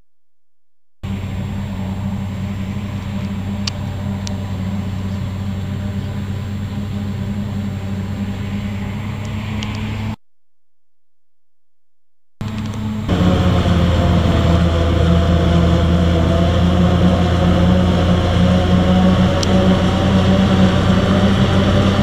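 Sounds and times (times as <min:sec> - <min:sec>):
deep diesel engine hum: 0:01.0 - 0:10.2, 0:12.4 - 0:22.0.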